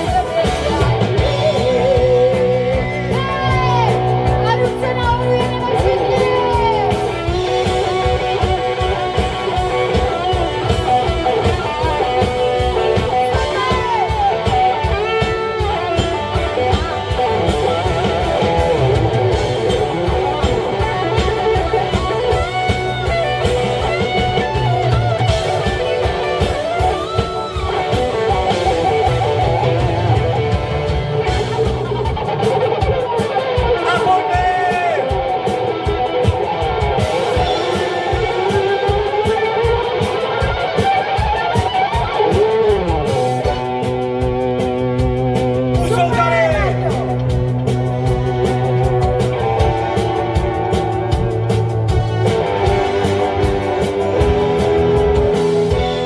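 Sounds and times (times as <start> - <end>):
rock band playing: 0.0 - 56.0
sliding electric guitar lead: 0.0 - 56.0.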